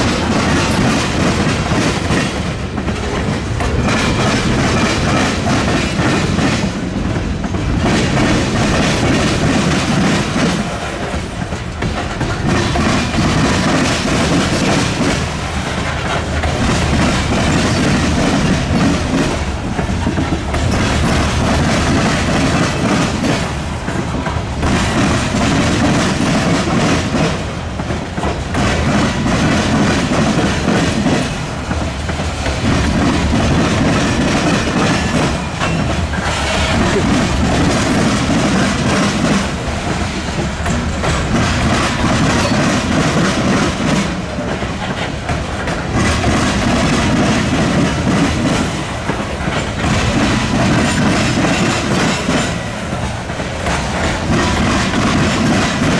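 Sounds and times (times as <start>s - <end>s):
train wheels clattering over rails: 0.0s - 55.9s.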